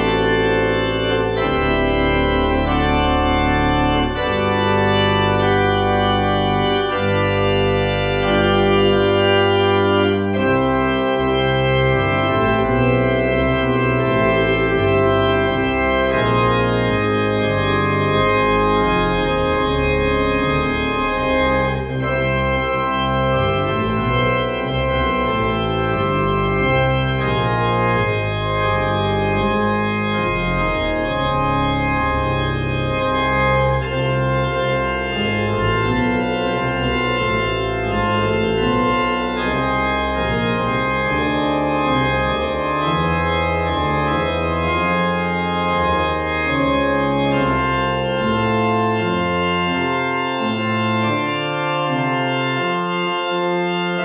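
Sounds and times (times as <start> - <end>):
deep pedal bass: 0.0 - 54.0
pipe organ chords: 0.0 - 54.0.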